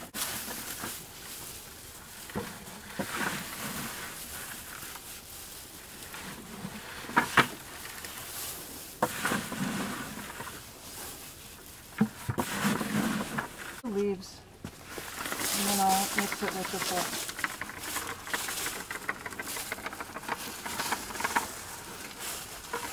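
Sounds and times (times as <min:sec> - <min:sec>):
straw and paper rustling: 0:00.0 - 0:22.9.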